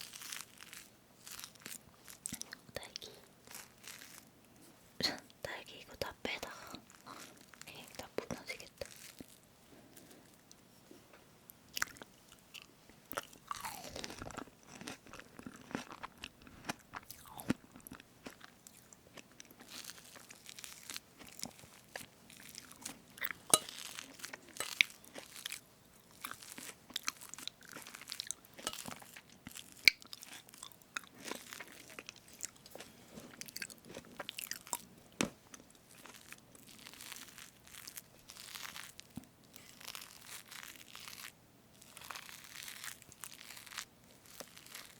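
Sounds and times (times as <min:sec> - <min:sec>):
wet chewing and mouth sounds: 0:00.0 - 0:05.3, 0:06.0 - 0:10.7, 0:11.5 - 0:44.9.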